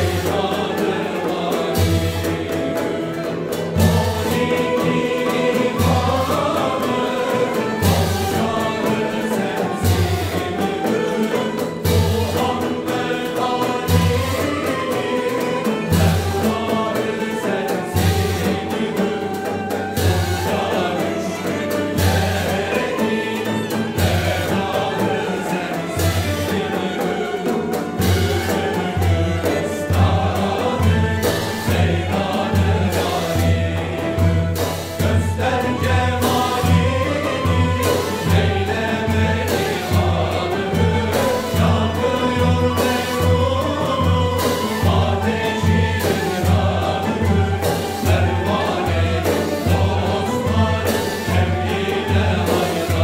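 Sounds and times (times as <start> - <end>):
frame drums beating: 0.0 - 53.0
male choir singing in unison: 0.0 - 53.0
ney ud kanun and violin: 0.0 - 53.0.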